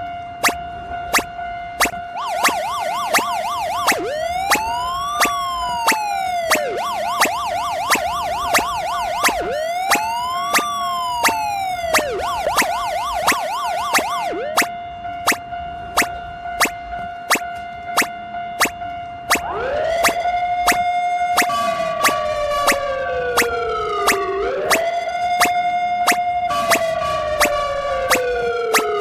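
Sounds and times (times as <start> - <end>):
siren yelp and wail: 0.4 - 17.4, 19.3 - 29.0.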